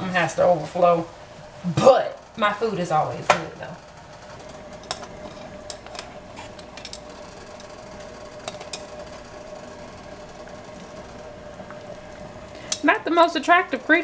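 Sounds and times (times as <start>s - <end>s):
water boiling in a pot: 0.0s - 14.0s.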